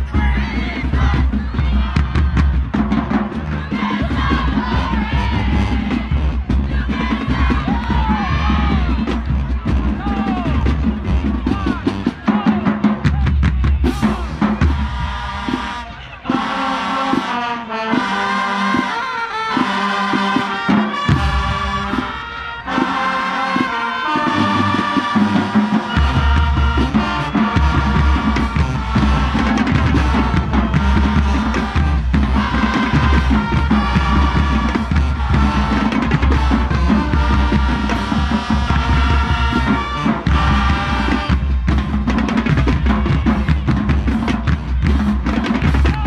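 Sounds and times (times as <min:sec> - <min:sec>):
bass drums: 0:00.0 - 0:15.8, 0:24.4 - 0:46.0
horn chords: 0:00.0 - 0:45.3
drumline percussion: 0:00.0 - 0:46.0.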